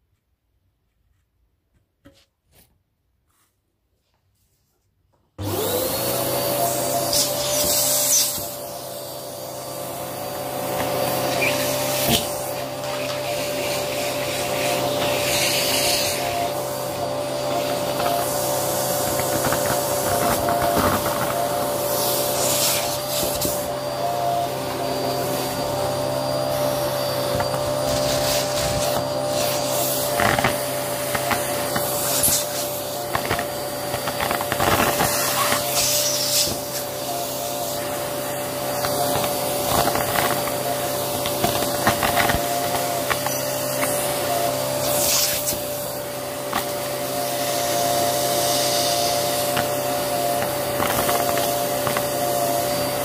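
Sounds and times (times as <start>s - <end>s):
vacuum cleaner whining: 5.4s - 53.0s.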